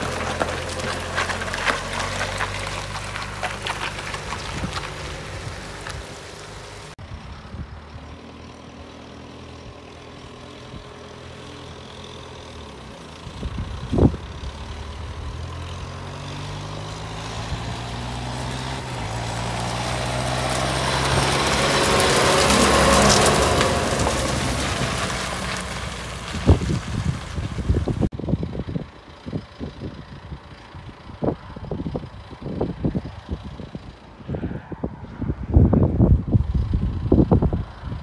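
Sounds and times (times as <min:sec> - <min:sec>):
tractor diesel engine: 0:00.0 - 0:38.0.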